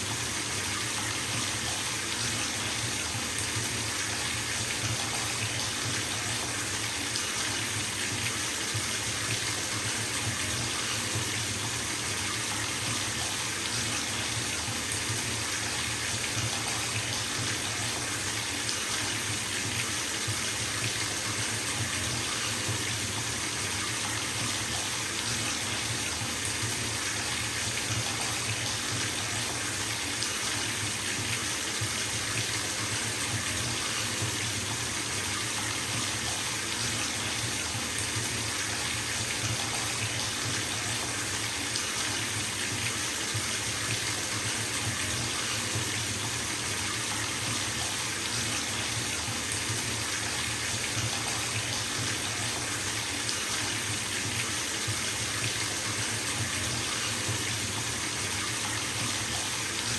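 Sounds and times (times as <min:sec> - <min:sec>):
bathtub tap running: 0:00.1 - 0:59.9.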